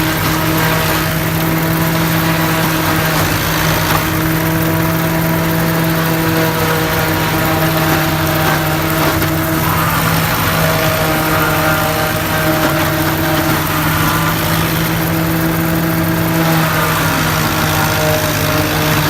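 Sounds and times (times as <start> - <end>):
tractor-driven chopper running: 0.0 - 19.0.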